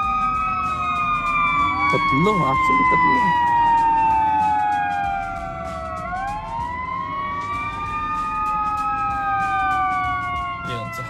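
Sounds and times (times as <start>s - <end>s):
fire truck sirens wailing: 0.0s - 11.0s.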